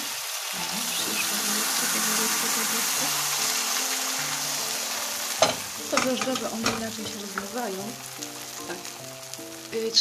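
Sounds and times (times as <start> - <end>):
batter sizzling in frying pan: 0.0 - 10.0.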